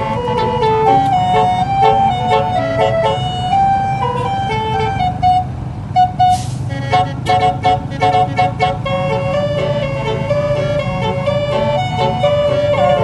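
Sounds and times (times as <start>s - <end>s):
melody of short quick notes: 0.0s - 13.0s
truck engine drone: 0.0s - 13.0s.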